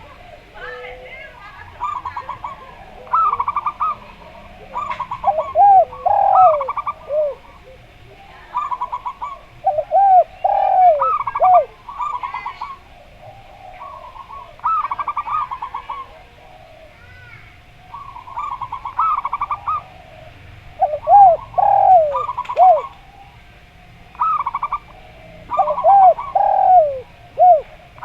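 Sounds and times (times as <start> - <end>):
doves rattling coos: 0.0 - 28.0
doves swooping coos: 0.0 - 28.0.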